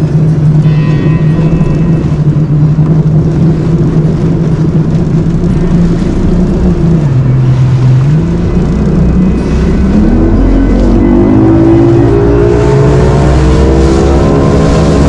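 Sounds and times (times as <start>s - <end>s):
outboard motor running at speed: 0.0s - 15.0s
wind and water rushing past hull: 0.0s - 15.0s.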